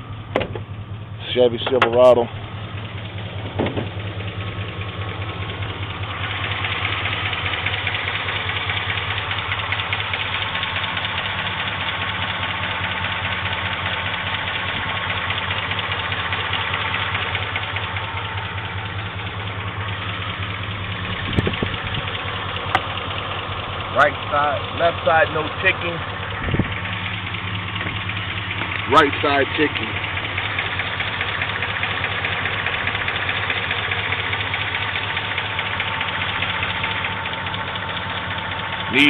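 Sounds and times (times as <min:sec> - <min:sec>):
car engine idling: 0:00.0 - 0:39.0
fast light engine ticking: 0:00.0 - 0:39.0.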